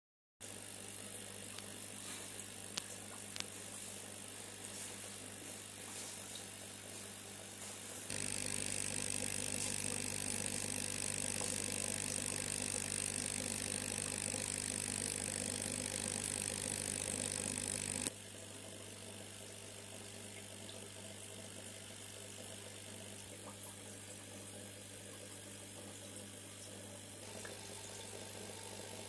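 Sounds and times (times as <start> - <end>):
aquarium filter pump humming: 0.4 - 29.0.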